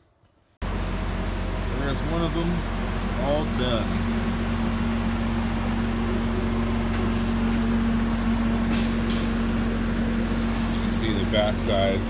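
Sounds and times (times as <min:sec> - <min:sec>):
shop machine humming: 0:00.6 - 0:12.0.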